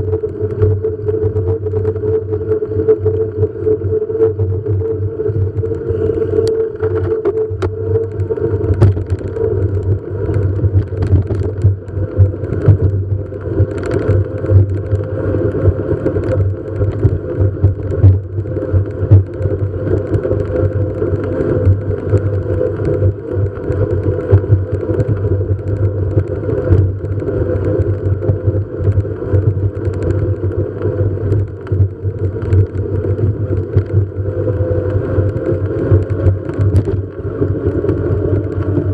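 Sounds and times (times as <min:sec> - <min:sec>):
vehicle running hum: 0:00.0 - 0:38.9.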